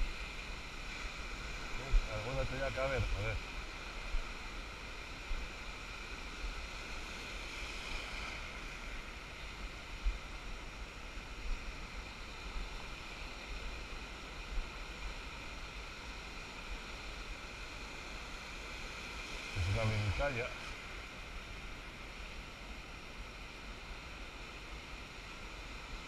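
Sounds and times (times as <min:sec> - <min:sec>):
surf washing over sand: 0:00.0 - 0:26.0.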